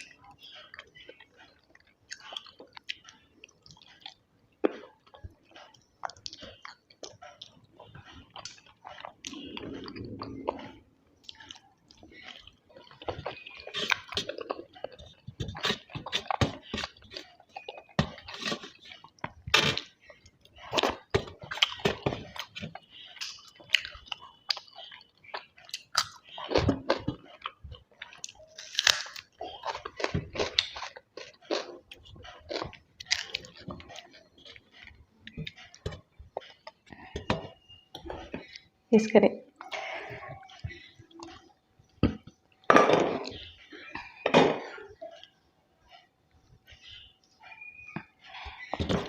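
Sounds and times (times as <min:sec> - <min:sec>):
chewing food: 0:00.0 - 0:38.9, 0:39.5 - 0:49.0.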